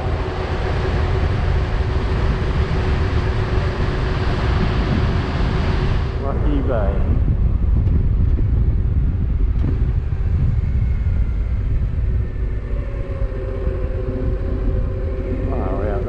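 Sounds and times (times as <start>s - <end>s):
wind noise: 0.0s - 16.0s.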